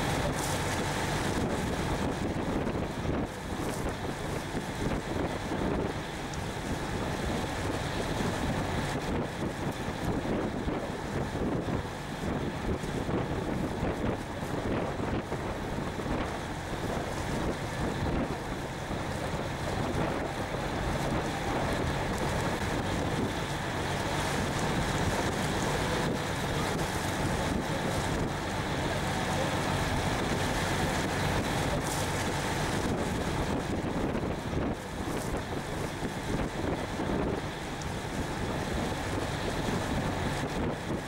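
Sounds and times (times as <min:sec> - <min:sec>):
low engine drone: 0:00.0 - 0:41.0
water washing past hull: 0:00.0 - 0:41.0
wind buffeting microphone: 0:00.0 - 0:41.0.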